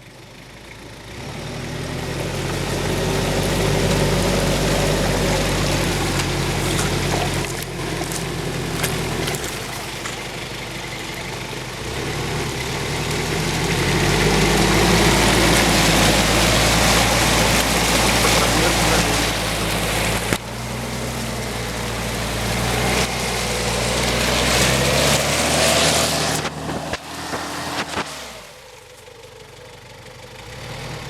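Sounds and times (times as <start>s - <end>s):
engine revving under load: 1.1s - 28.9s, 30.4s - 31.0s.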